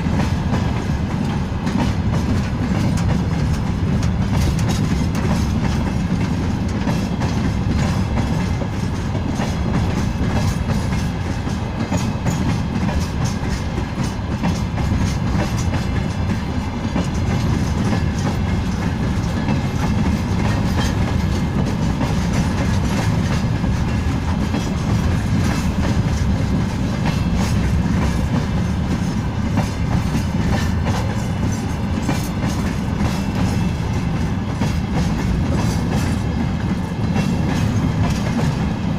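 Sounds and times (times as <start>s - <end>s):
freight train wagons rolling: 0.0s - 38.9s
wheels clattering over rail joints: 0.1s - 38.9s.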